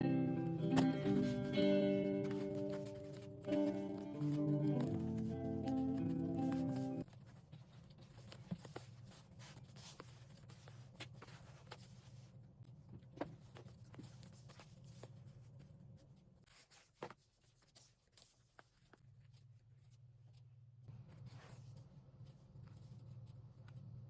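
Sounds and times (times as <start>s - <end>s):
paper and card handling: 0.5s - 24.0s.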